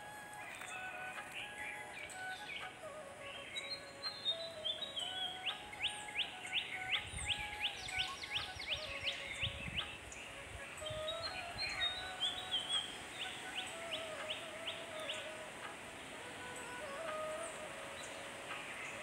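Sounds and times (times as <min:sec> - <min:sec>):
bird calling in falling notes: 0:00.0 - 0:19.0.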